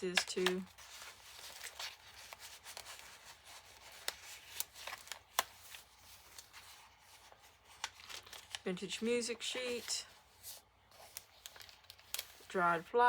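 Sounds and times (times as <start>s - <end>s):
pages rustling: 0.0s - 12.9s.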